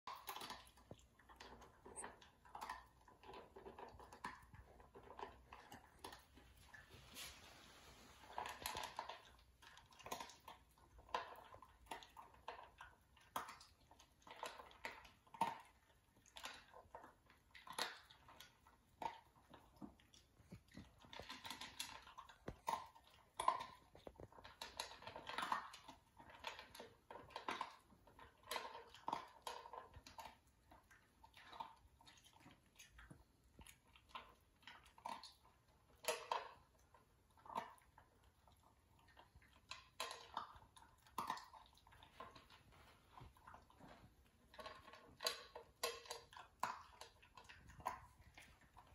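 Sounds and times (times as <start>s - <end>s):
dog crunching kibble: 0.0s - 7.3s, 8.2s - 48.9s.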